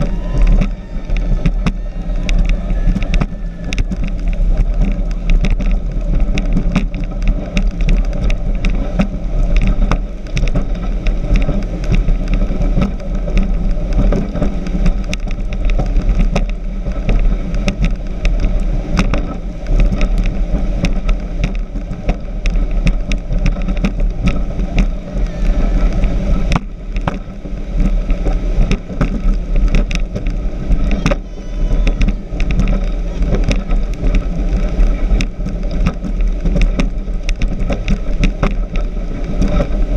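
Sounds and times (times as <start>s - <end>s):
speedboat engine and hull: 0.0s - 39.9s
wind buffeting microphone: 0.0s - 39.9s.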